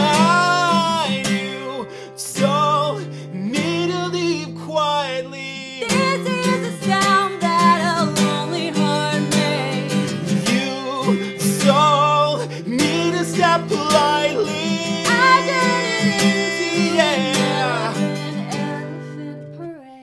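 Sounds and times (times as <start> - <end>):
acoustic guitar strummed: 0.0 - 19.7
man and woman singing: 0.0 - 20.0.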